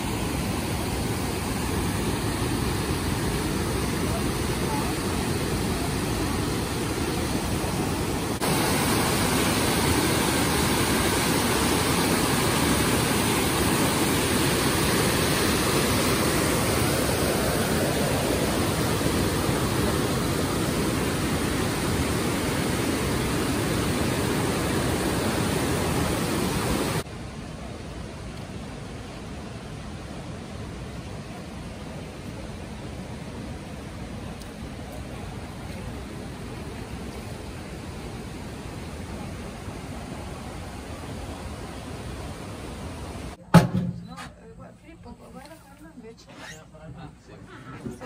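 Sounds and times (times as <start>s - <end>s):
water rushing: 0.0s - 43.4s.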